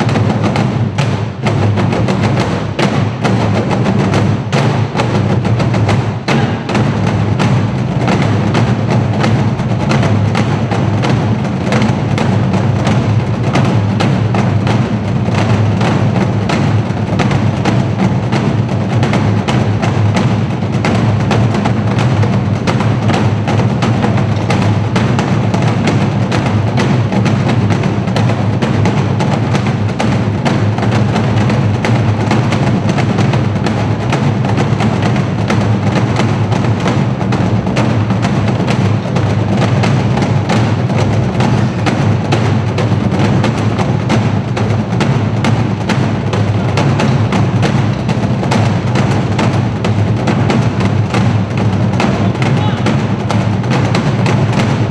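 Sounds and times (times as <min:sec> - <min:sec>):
drum ensemble playing fast rhythm: 0:00.0 - 0:54.9
low drum tone: 0:00.0 - 0:54.9.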